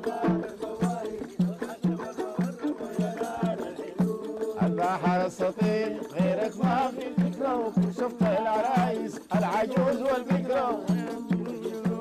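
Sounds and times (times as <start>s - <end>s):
handclaps: 0.0s - 12.0s
men singing: 0.0s - 12.0s.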